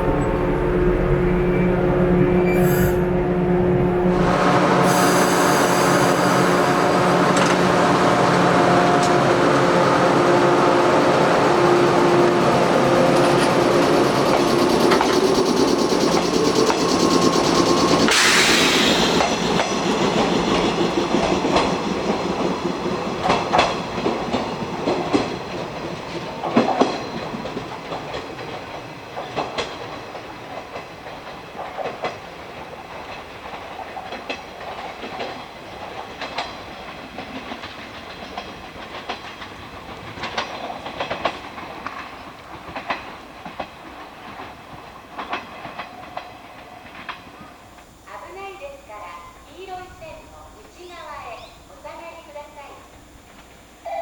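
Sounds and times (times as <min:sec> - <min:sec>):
train wheels clicking over rail joints: 0:04.8 - 0:48.4.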